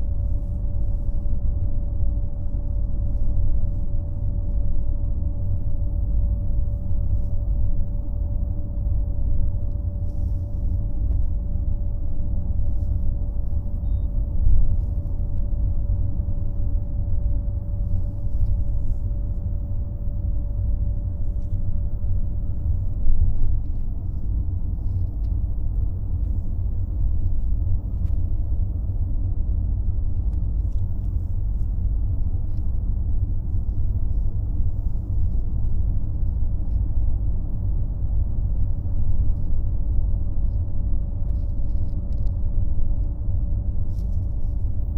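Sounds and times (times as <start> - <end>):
faint steady whine: 0.0 - 44.9.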